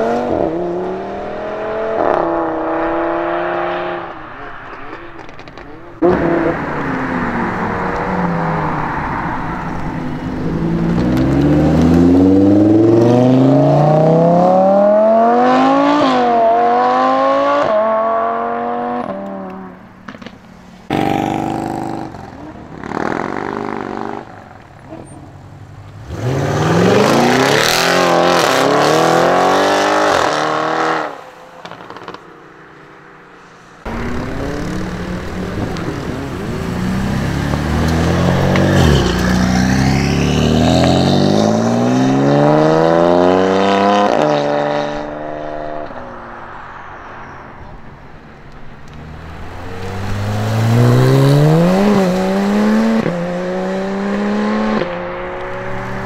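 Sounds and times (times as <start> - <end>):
car engines accelerating hard: 0.0 - 32.2, 33.8 - 46.8, 48.4 - 56.0.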